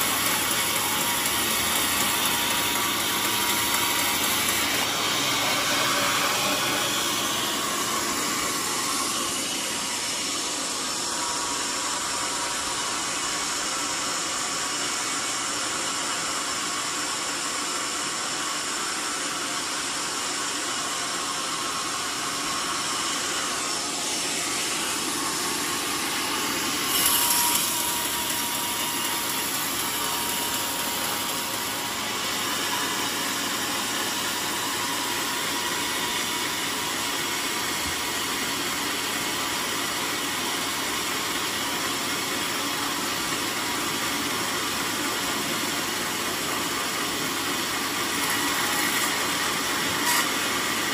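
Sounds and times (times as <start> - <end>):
band saw cutting wood: 0.0 - 15.2, 20.6 - 50.9.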